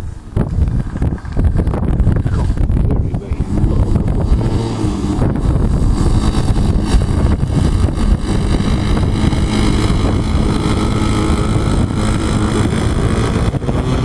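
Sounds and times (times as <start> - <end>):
model aircraft motor drone: 0.0 - 14.0
wind buffeting microphone: 0.0 - 14.0.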